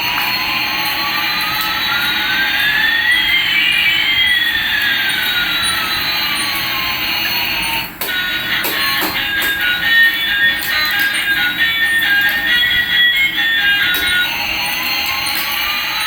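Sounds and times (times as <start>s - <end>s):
electronic jet engine effect: 0.0s - 16.0s.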